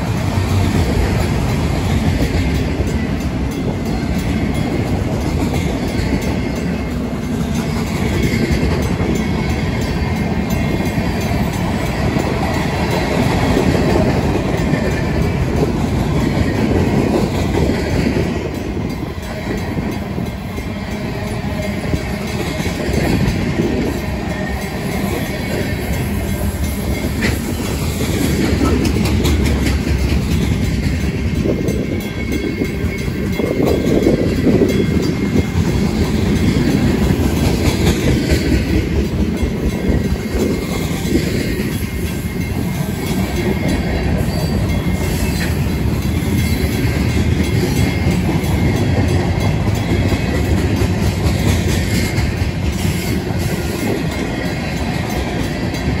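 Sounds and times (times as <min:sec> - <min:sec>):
crossing bells ringing: 0:00.0 - 0:56.0
train wheels rumbling on rails: 0:00.0 - 0:56.0.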